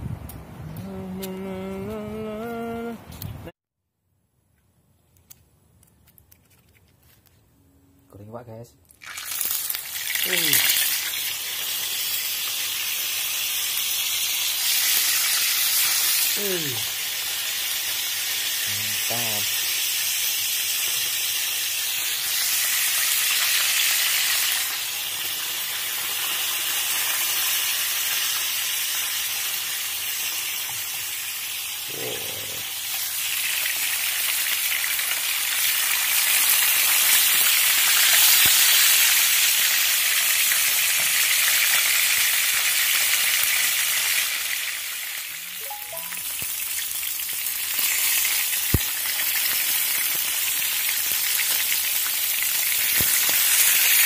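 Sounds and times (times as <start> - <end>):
fish frying in hot oil: 9.0 - 54.0.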